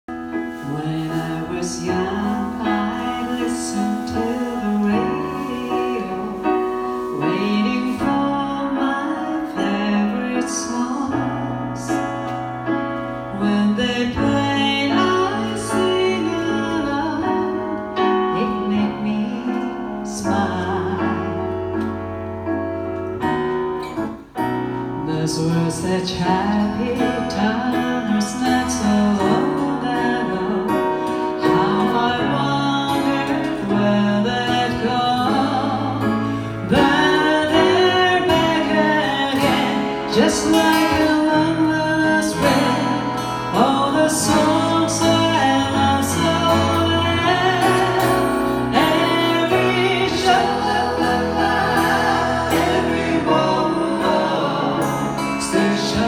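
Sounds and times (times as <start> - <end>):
acoustic guitar: 0.0 - 56.0
grand piano: 0.0 - 56.0
person singing: 0.1 - 22.2, 23.2 - 56.0.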